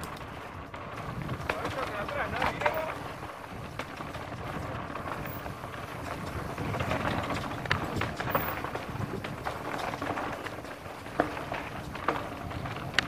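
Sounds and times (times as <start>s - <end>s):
bike knocks and rattles: 0.0s - 13.0s
tyres rumbling over dirt: 0.0s - 13.0s.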